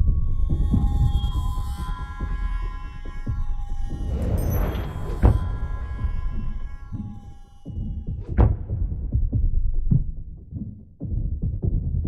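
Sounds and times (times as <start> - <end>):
low pulsing dramatic score: 0.0 - 10.0.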